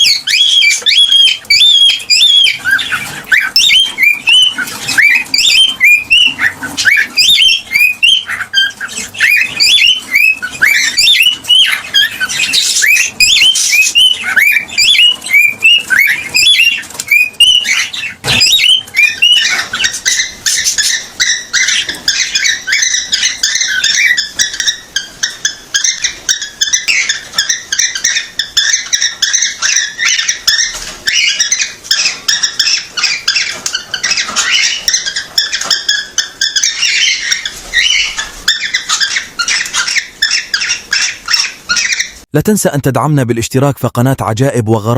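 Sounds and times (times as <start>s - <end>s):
cockatiel chirping: 0.0s - 42.3s.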